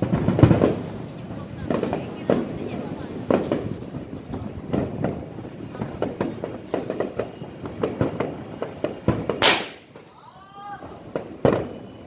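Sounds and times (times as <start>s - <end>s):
rolling rumble: 0.0s - 10.1s
fireworks bangs: 0.0s - 12.0s.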